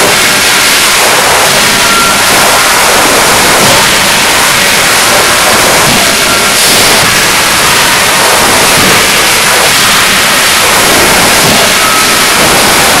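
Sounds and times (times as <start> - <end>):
forging shop roar: 0.0 - 13.0.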